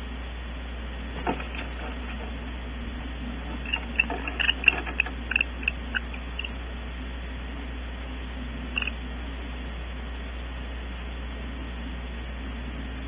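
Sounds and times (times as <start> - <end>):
microphone hiss and hum: 0.0 - 13.0.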